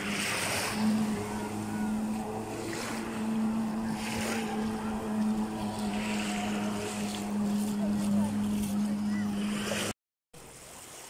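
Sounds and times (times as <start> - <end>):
jet ski engine droning: 0.0 - 10.0
small waves splashing: 0.0 - 11.0.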